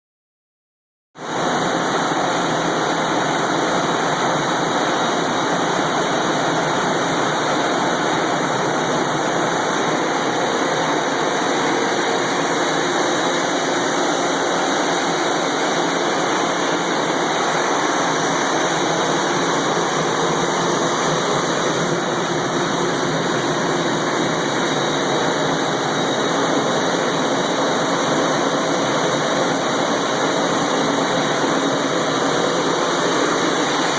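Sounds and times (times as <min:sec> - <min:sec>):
air compressor hiss and whir: 0:01.3 - 0:33.9
faint steady tones: 0:01.7 - 0:33.9.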